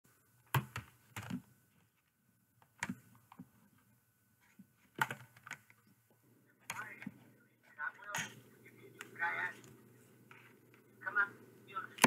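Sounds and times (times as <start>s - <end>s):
faint clicks and taps: 0.4s - 10.9s.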